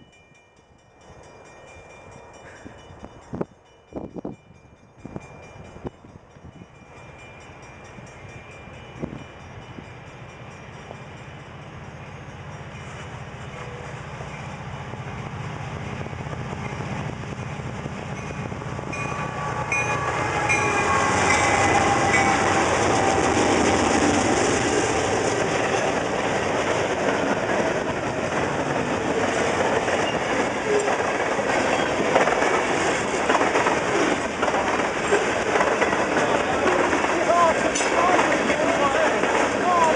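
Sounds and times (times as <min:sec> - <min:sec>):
diesel locomotives passing: 0:00.0 - 0:39.9
train rumbling and clattering on rails: 0:00.0 - 0:39.9.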